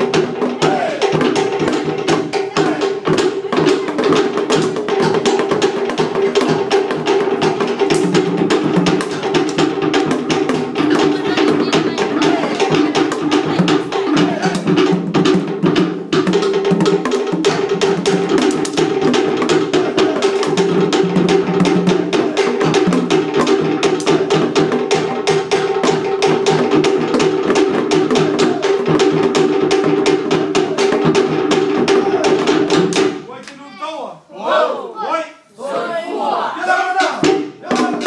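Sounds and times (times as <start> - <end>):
sticks beating drums: 0.0 - 33.8, 36.6 - 38.0.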